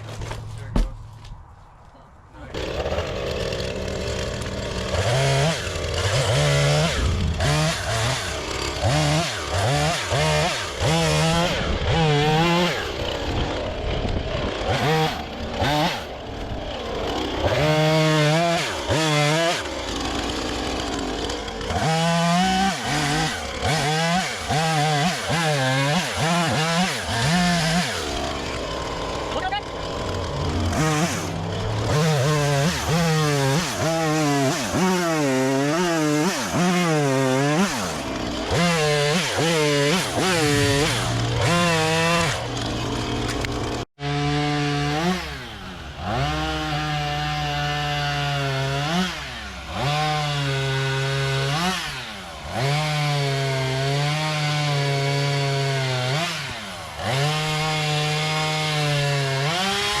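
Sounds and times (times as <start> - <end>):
chainsaw cutting wood: 2.4 - 60.0.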